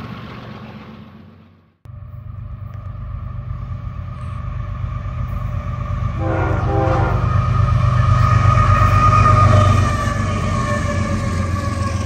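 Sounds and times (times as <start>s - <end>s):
locomotive engines rumbling: 0.0s - 12.0s.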